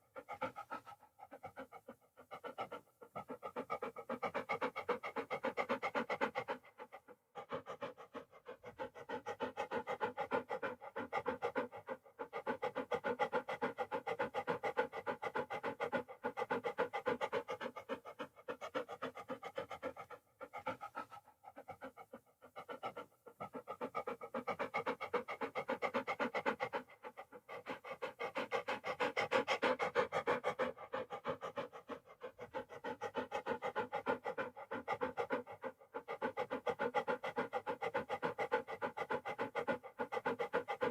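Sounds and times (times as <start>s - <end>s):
dog panting: 0.0s - 40.9s.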